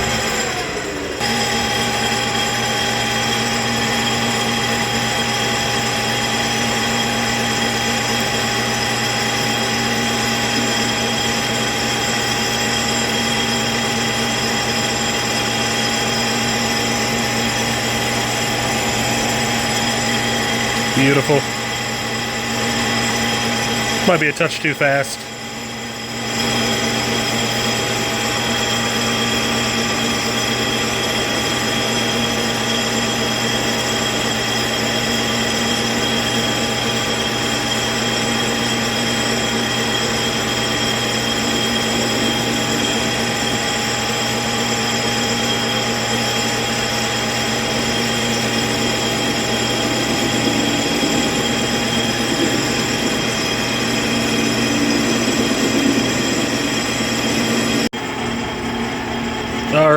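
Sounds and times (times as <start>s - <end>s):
lathe machine hum: 0.0s - 24.1s, 25.3s - 59.7s.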